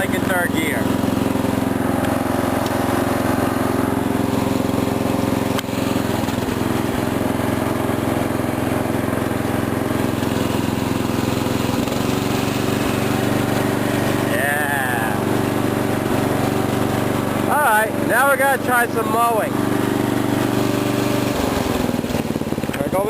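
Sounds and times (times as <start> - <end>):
riding mower engine running: 0.0 - 23.0.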